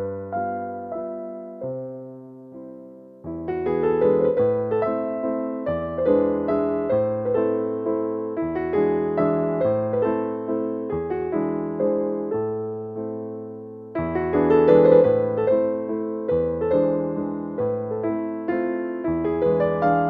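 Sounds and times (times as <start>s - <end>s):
electric piano music: 0.0s - 20.0s.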